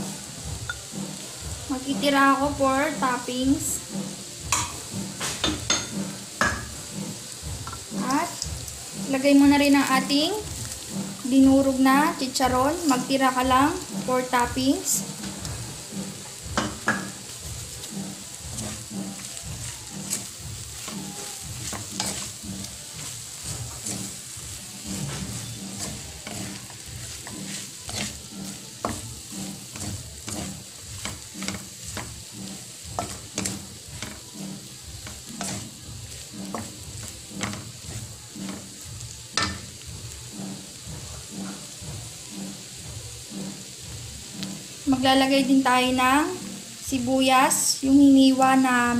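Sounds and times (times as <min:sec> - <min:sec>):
food sizzling: 0:00.0 - 0:48.9
wooden spatula scraping a wok: 0:00.0 - 0:48.9.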